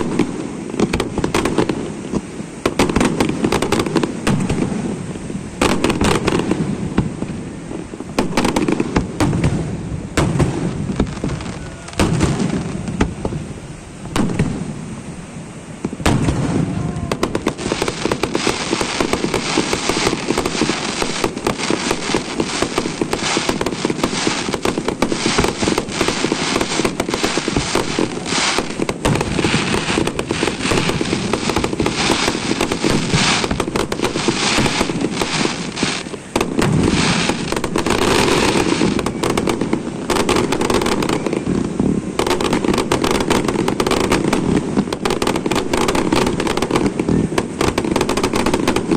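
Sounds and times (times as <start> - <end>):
fireworks booming: 0.0 - 15.1, 15.7 - 48.9
fireworks crackling and popping: 0.0 - 48.9.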